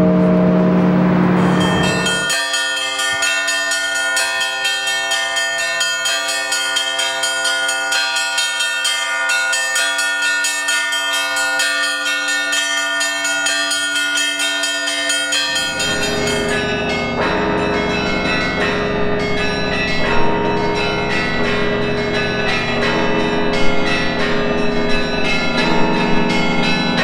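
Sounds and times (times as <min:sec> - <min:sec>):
large bells ringing: 0:00.0 - 0:27.0
small bells striking rapidly: 0:01.4 - 0:27.0.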